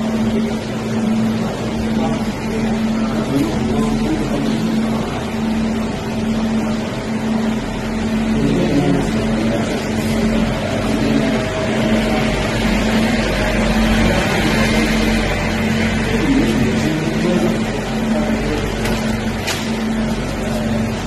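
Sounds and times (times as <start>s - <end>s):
cooling pump and fans humming: 0.0s - 21.0s.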